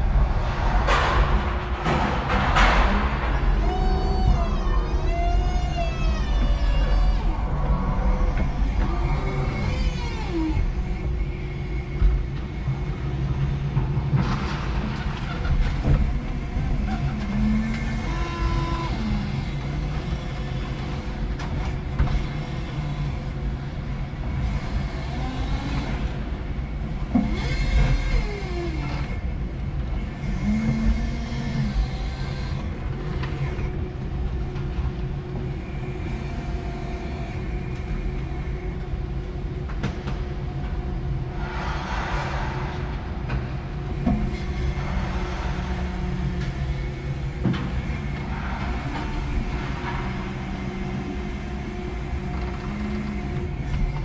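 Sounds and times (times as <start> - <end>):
forklift motors and hydraulics whining: 0.0 - 54.0
low rumble: 0.0 - 54.0.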